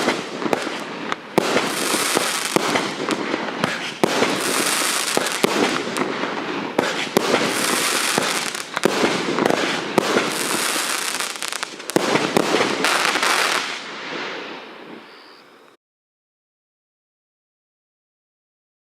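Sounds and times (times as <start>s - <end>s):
firework crackle: 0.0s - 15.3s
firework reports: 0.0s - 15.4s.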